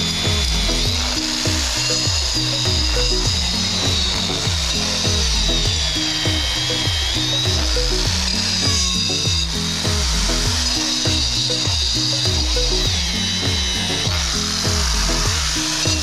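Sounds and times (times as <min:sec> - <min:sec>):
angle grinder cutting pipe: 0:00.0 - 0:16.0
background music with steady beat: 0:00.0 - 0:16.0.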